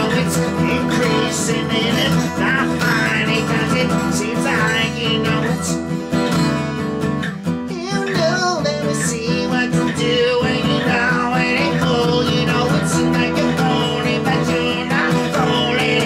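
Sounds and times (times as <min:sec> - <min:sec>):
guitar-backed song: 0:00.0 - 0:16.0.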